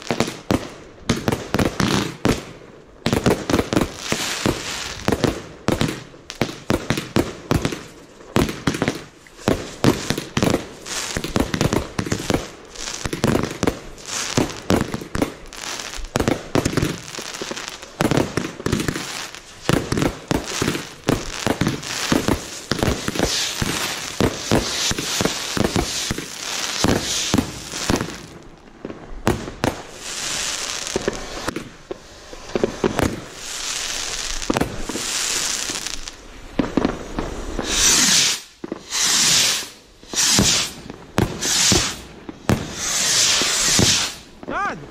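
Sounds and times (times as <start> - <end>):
fireworks bangs and crackles: 0.0 - 44.9
fireworks rockets launching with hiss: 0.0 - 44.9.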